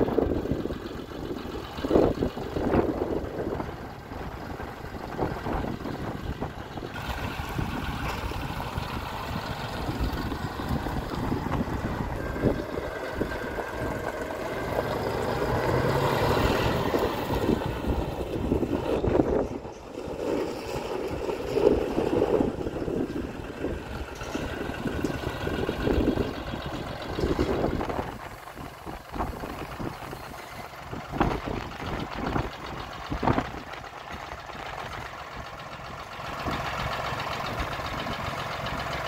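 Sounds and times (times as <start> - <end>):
wind buffeting microphone: 0.0 - 35.6
tractor diesel engine running: 0.0 - 39.0.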